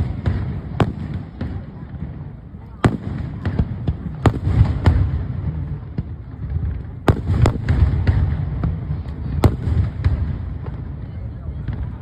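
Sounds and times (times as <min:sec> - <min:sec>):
fireworks bangs: 0:00.0 - 0:12.0
rumble of echoing explosions: 0:00.0 - 0:12.0
smaller fireworks pops: 0:00.0 - 0:12.0.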